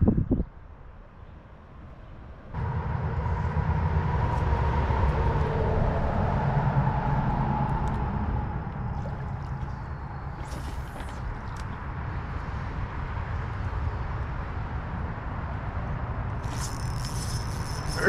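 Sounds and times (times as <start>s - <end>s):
low vehicle rumble: 2.4s - 18.0s.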